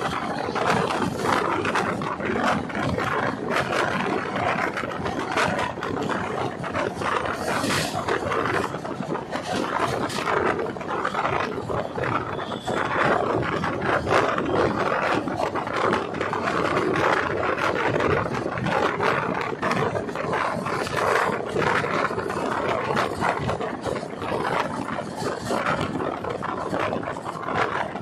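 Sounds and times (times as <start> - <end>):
train wheels clacking on rails: 0.0 - 28.0.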